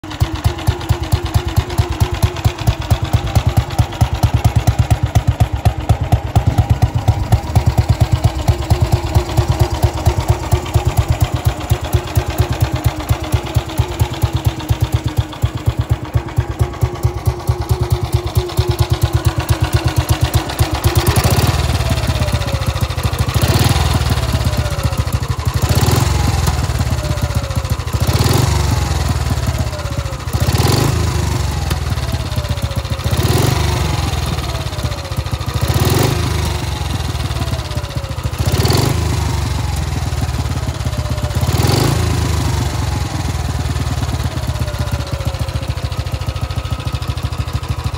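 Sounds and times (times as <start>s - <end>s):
motorcycle engine idling and revving: 0.0s - 47.9s.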